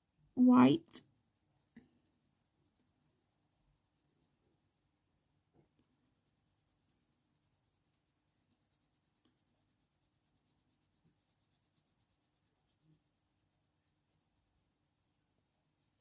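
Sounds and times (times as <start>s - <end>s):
coloured pencil scratching on paper: 1.8s - 16.0s.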